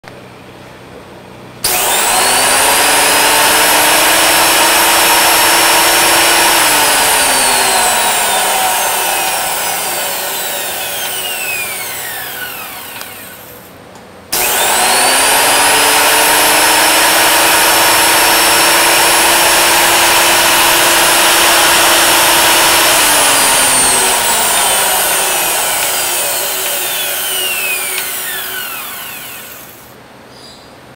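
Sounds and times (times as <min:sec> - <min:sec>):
thickness planer whining: 0:01.6 - 0:30.0.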